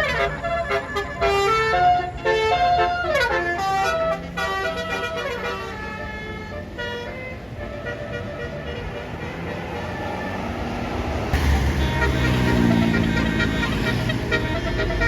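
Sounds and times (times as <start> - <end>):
bus air horn melody: 0.0 - 15.0
vehicle noise: 0.0 - 15.0.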